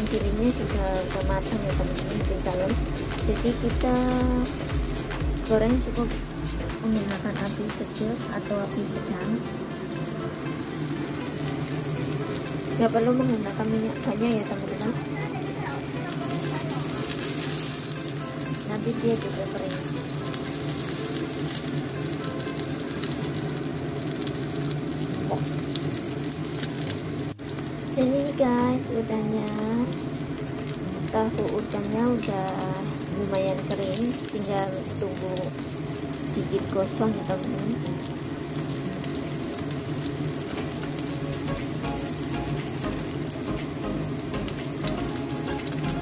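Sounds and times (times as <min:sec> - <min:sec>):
food sizzling in oil: 0:00.0 - 0:46.0.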